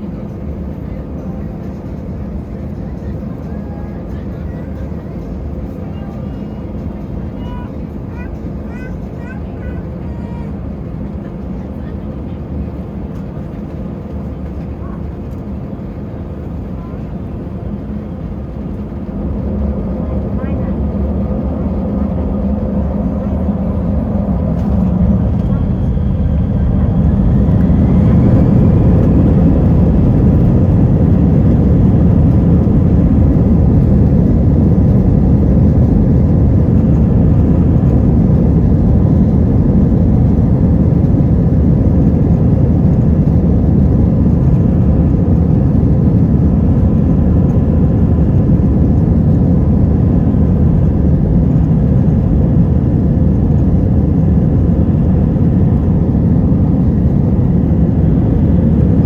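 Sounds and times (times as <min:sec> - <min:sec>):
airliner cabin rumble: 0:00.0 - 0:59.0
faint engine whine: 0:00.0 - 0:59.0.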